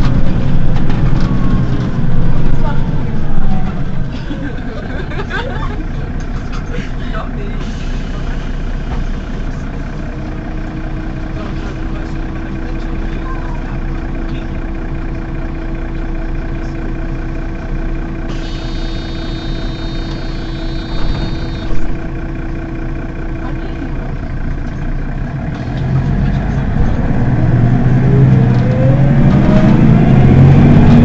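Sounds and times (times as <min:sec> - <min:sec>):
bus diesel engine idling: 0:00.0 - 0:31.0.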